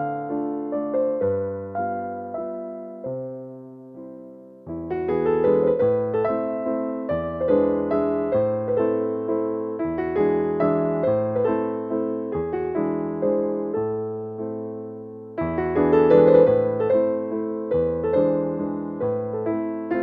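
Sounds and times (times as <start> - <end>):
gentle keyboard music: 0.0 - 20.0.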